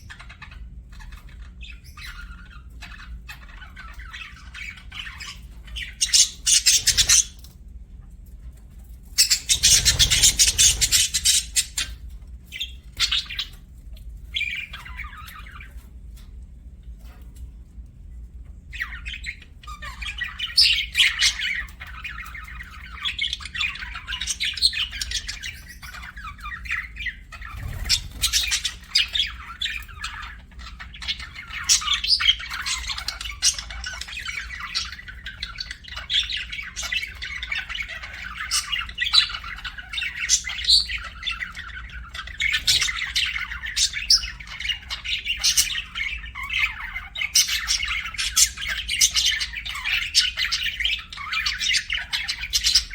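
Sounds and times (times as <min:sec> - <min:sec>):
budgerigars chirping: 0:00.0 - 0:07.6, 0:09.1 - 0:15.9, 0:18.7 - 0:52.9.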